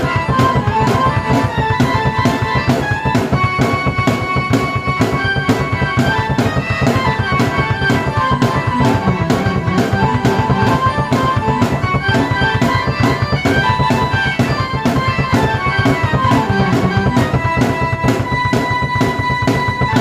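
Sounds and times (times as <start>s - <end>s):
drum kit playing a steady beat: 0.0s - 20.0s
keyboard melody: 0.0s - 20.0s.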